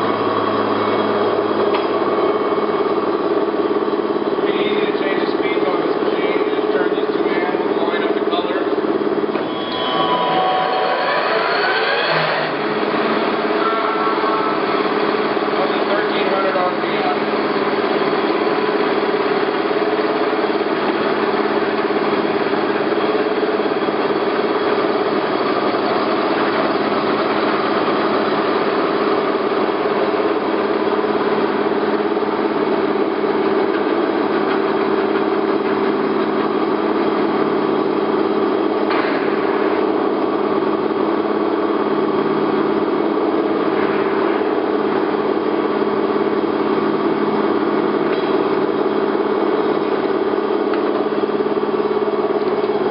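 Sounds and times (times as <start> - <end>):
lathe humming: 0.0 - 52.9.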